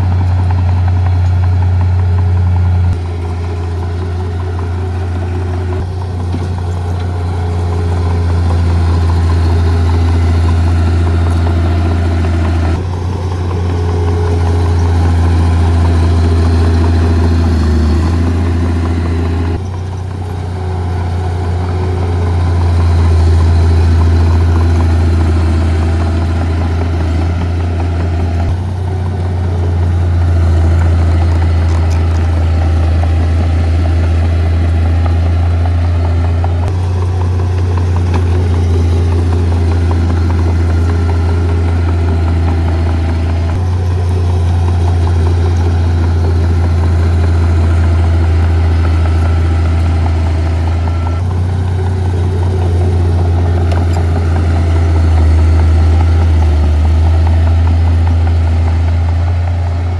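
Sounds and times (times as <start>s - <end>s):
heavy diesel engine humming: 0.0s - 59.9s.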